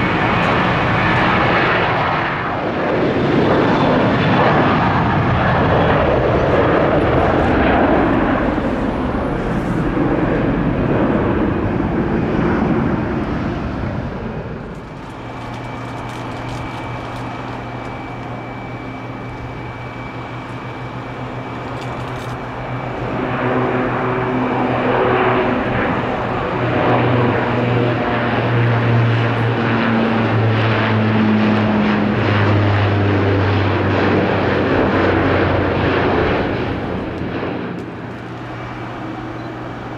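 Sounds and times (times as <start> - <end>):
aircraft engines humming with whine: 0.0 - 39.9
passing aircraft: 0.0 - 39.9.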